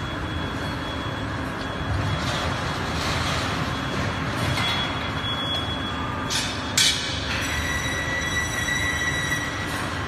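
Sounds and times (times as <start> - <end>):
machinery noise: 0.0 - 10.0.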